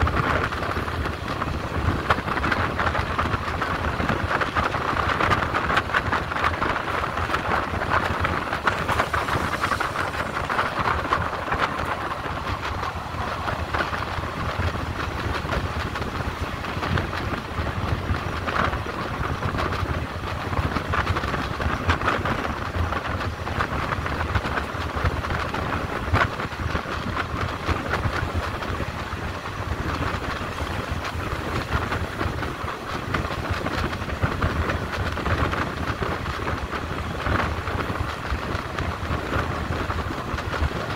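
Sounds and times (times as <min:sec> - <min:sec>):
train wheels rumbling on rail: 0:00.0 - 0:40.9
wheels clicking over rail joints: 0:00.0 - 0:40.9.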